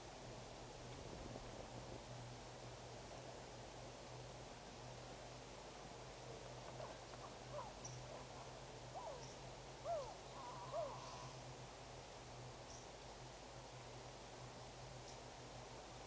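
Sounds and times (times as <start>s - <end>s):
steady hiss and low hum: 0.0s - 16.0s.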